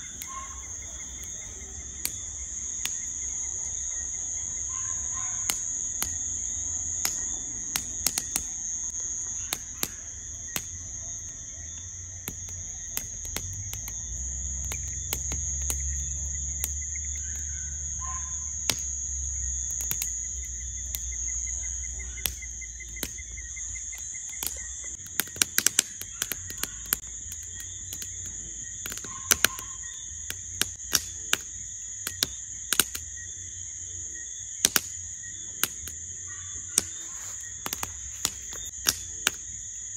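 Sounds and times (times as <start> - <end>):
campfire pops and crackles: 0.0 - 3.7, 5.2 - 39.9
crickets chirping: 0.0 - 39.9.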